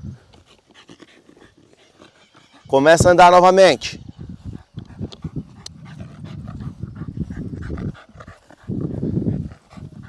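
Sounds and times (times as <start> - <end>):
dog panting: 0.1 - 3.6, 4.2 - 10.0.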